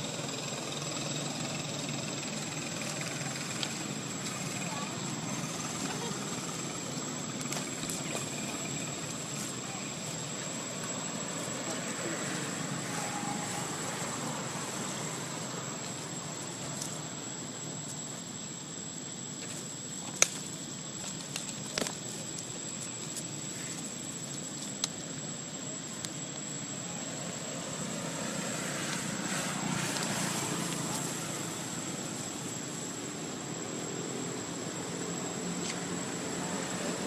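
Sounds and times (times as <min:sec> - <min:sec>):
outdoor background rush: 0:00.0 - 0:37.0.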